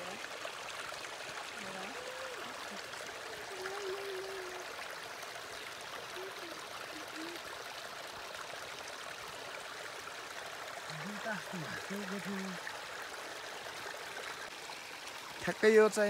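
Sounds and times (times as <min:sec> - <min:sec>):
stream trickling over stones: 0:00.0 - 0:16.0.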